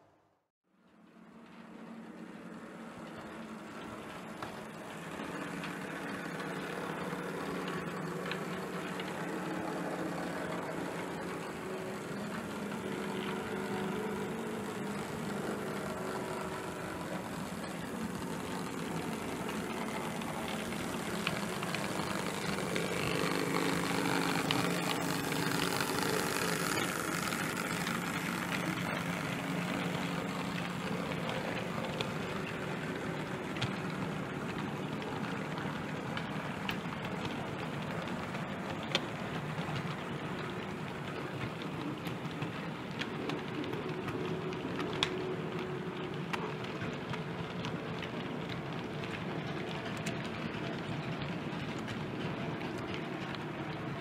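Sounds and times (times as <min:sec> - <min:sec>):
model locomotive engine sound: 0:00.8 - 0:54.0
model wagon wheels rumbling: 0:01.5 - 0:54.0.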